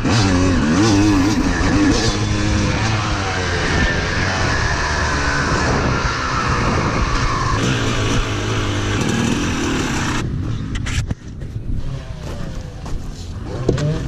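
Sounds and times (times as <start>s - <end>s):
dirt bike engine running: 0.0s - 14.0s
rushing wind: 0.0s - 14.0s.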